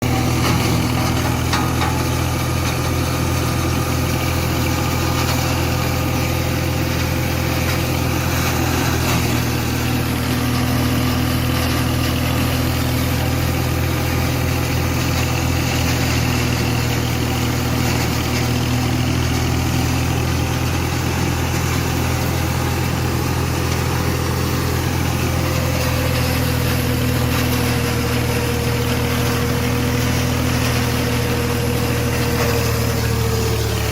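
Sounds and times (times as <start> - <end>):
tractor engine droning: 0.0 - 33.9
wood chipper humming: 0.0 - 33.9.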